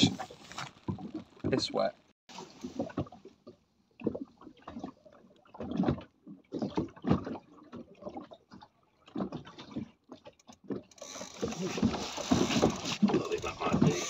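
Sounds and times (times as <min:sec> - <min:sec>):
water sloshing against boat hull: 0:00.0 - 0:14.0.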